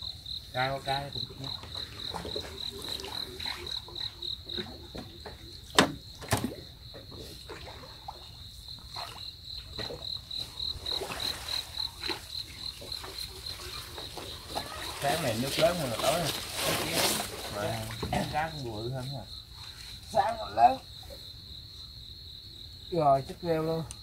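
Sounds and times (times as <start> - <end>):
insect chirping: 0.0 - 24.0.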